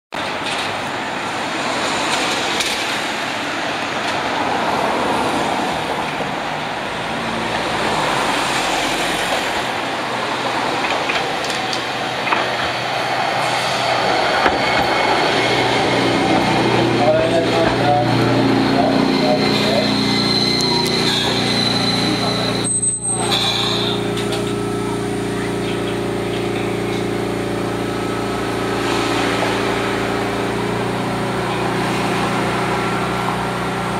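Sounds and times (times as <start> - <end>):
street traffic noise: 0.1 - 33.9
tram running on track: 0.1 - 33.9.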